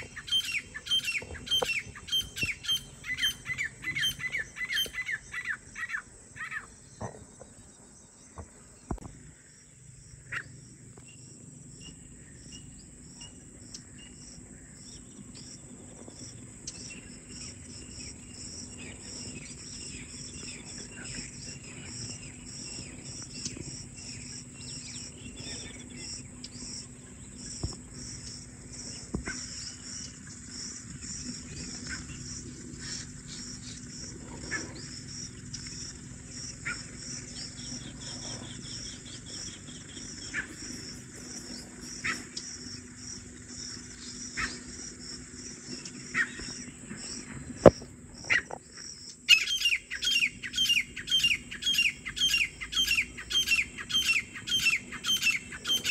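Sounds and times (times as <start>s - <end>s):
francolins calling: 0.0s - 7.1s, 11.9s - 55.9s
crickets chirping: 0.0s - 55.9s.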